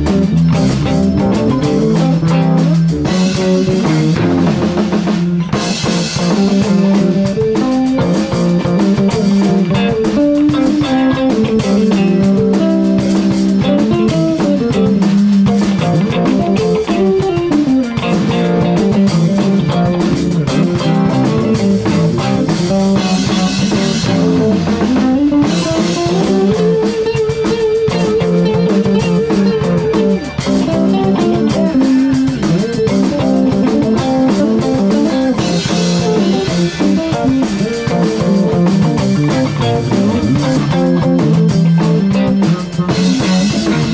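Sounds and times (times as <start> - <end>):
rock band playing: 0.0 - 43.9.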